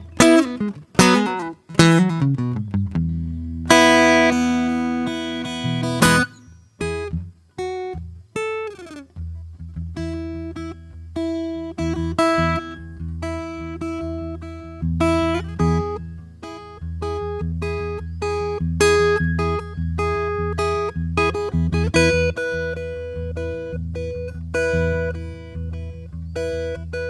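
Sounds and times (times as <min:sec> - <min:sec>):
acoustic guitar played softly: 0:00.0 - 0:27.0.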